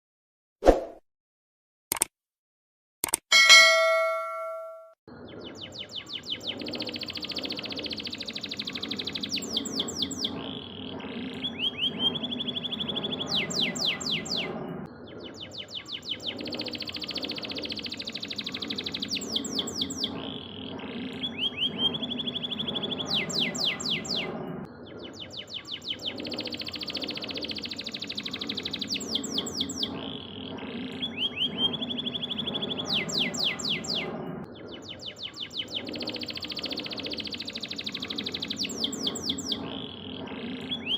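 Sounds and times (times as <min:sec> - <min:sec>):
low background hum: 0:03.4 - 0:40.9.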